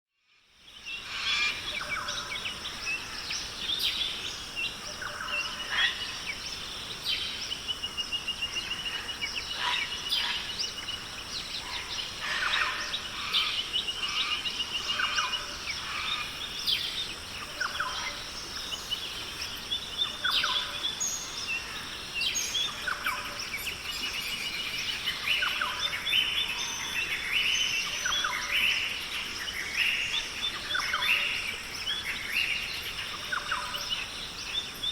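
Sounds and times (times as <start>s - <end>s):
high insect hum: 0.4s - 34.9s
birds chirping and trilling: 0.6s - 34.9s.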